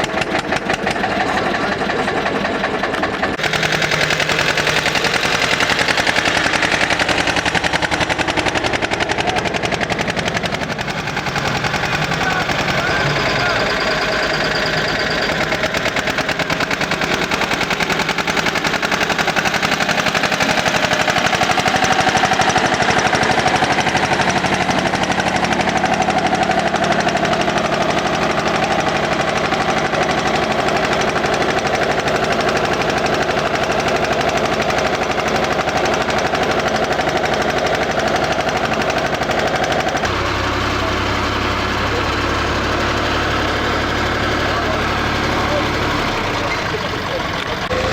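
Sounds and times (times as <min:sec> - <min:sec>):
tractor diesel engine knocking: 0:00.0 - 0:47.9.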